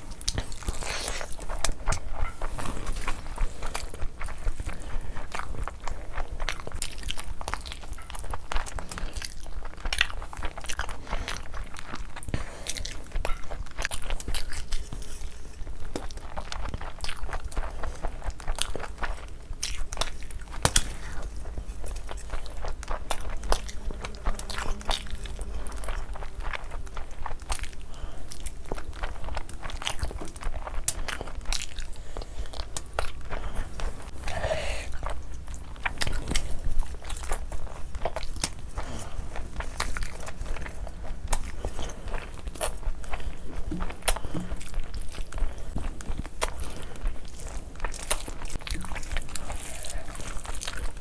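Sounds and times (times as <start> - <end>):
wet chewing and mouth smacking: 0.0 - 51.0.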